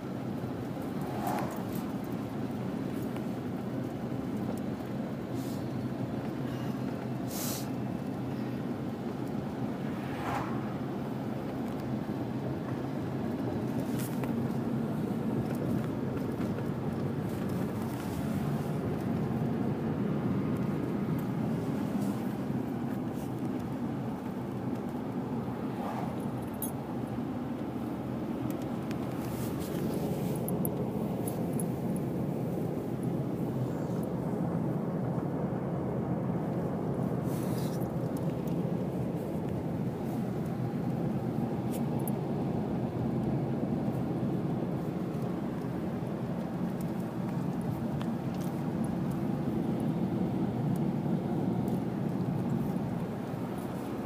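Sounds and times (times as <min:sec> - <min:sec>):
diesel engine drone: 0:00.0 - 0:54.0
road noise: 0:00.0 - 0:54.0.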